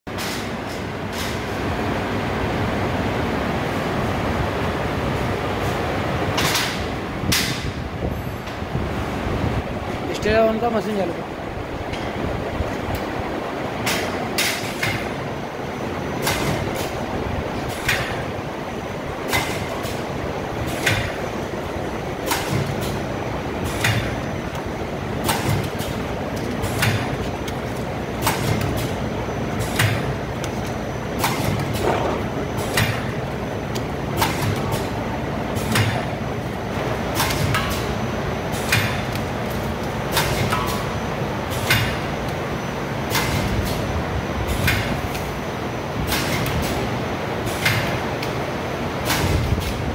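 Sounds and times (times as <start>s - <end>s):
packing machine humming: 0.1s - 49.9s.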